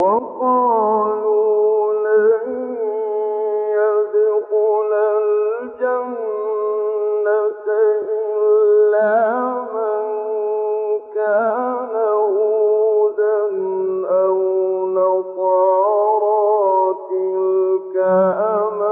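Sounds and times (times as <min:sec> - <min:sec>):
person chanting melodically: 0:00.0 - 0:18.9.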